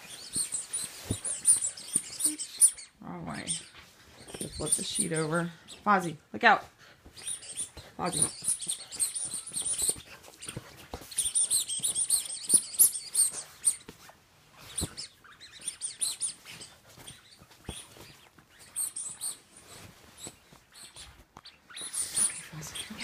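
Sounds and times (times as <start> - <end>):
bedsheets rustling and scraping: 0.0 - 5.7, 6.6 - 23.0.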